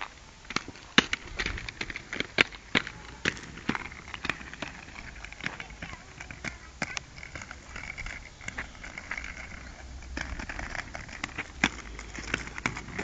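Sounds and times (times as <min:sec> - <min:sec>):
skate wheels rolling on pavement: 0:00.0 - 0:13.0.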